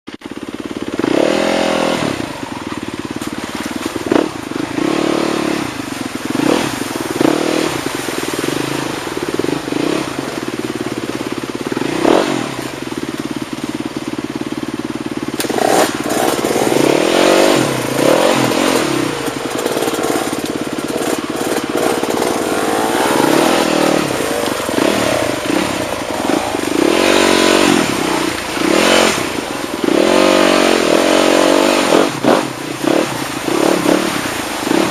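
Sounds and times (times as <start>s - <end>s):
stream rushing over stones: 0.4s - 34.9s.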